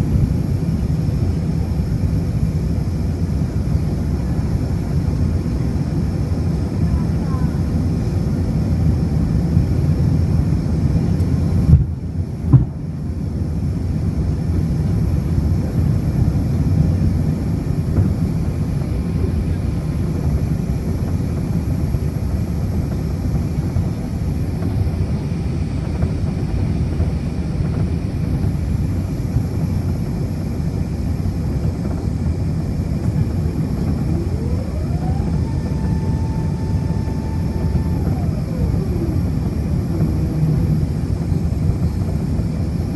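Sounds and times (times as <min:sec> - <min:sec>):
airflow and engine roar: 0:00.0 - 0:42.9
whine: 0:00.0 - 0:42.9.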